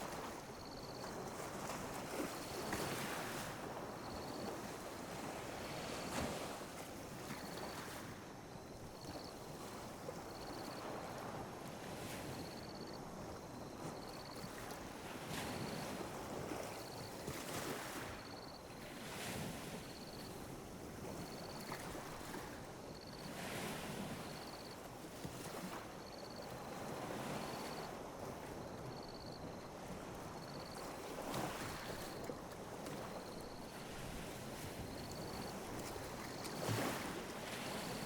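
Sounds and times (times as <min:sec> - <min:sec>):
ocean waves lapping on beach: 0:00.0 - 0:38.0.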